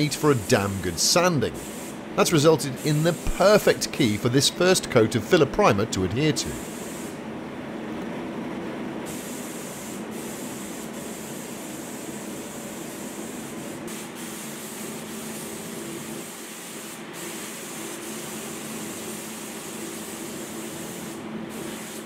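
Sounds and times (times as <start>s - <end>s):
spray gun hissing: 0.0s - 4.2s, 6.4s - 7.2s, 9.1s - 22.0s.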